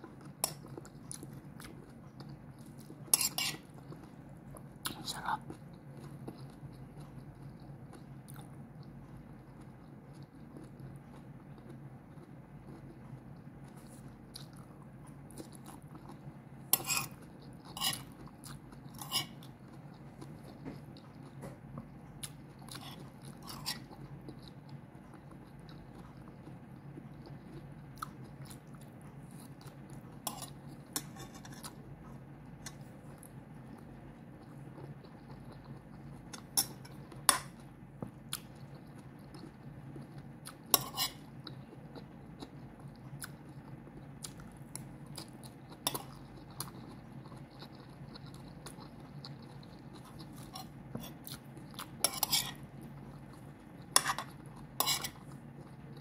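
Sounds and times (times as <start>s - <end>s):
low steady hum: 0.0s - 56.0s
person chewing: 0.0s - 56.0s.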